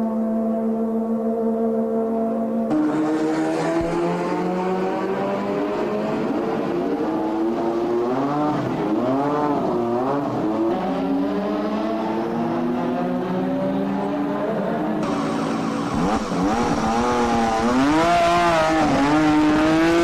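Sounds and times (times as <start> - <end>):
racing car engine high revs: 2.7 - 20.0.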